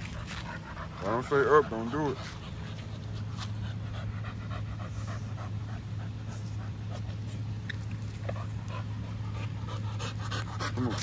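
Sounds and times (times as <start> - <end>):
dog panting: 0.0 - 11.0
steady low hum: 0.0 - 11.0.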